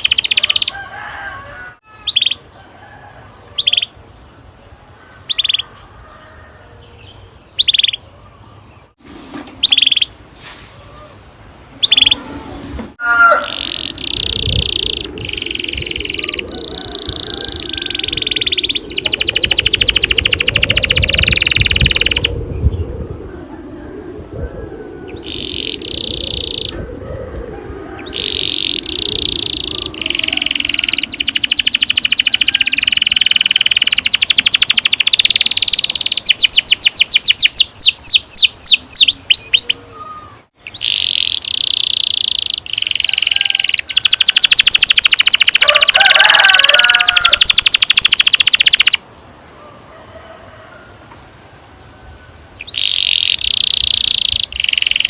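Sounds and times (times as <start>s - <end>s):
canary singing trills: 0.0s - 0.8s, 1.9s - 2.6s, 3.3s - 4.3s, 5.1s - 5.9s, 7.0s - 8.9s, 9.6s - 10.2s, 10.8s - 12.4s, 13.1s - 22.8s, 24.3s - 26.8s, 27.9s - 49.8s, 52.5s - 55.0s.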